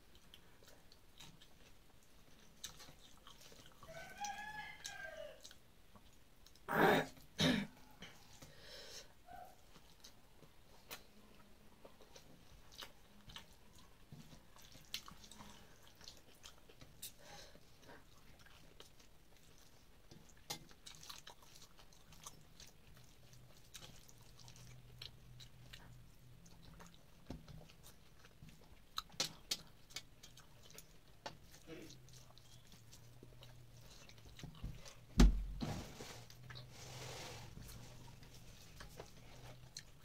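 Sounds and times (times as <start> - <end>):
person chewing: 0.0 - 6.7, 9.6 - 35.1, 36.3 - 40.0.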